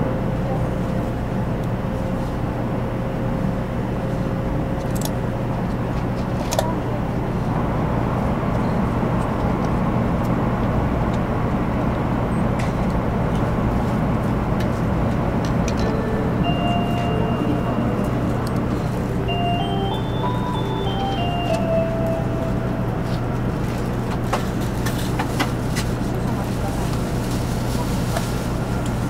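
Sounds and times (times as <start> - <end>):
train cabin rumble: 4.5 - 29.0.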